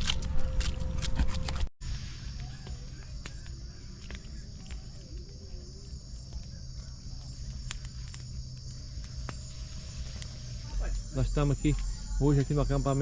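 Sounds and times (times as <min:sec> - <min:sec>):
crickets chirring: 0:01.8 - 0:13.0.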